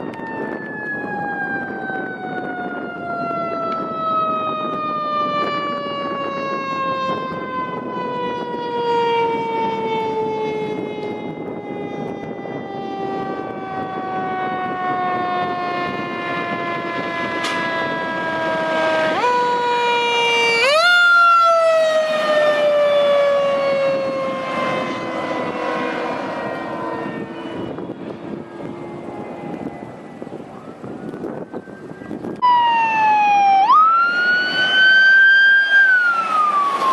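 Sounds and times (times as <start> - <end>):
fire truck siren winding: 0.0 - 36.9
truck engine and tyre noise: 0.0 - 36.9.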